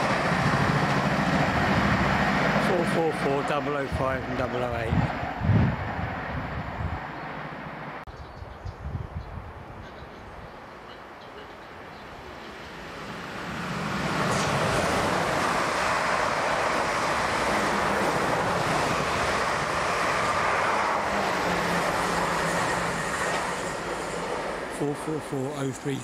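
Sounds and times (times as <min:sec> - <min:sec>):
train wheels rushing on rail: 0:00.0 - 0:07.1, 0:12.1 - 0:26.0.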